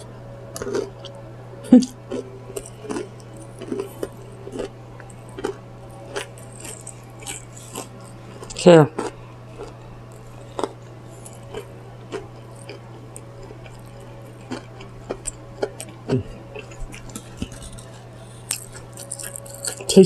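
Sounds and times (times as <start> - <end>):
steady low hum: 0.0 - 20.0
chewing and lip smacks: 1.8 - 19.9.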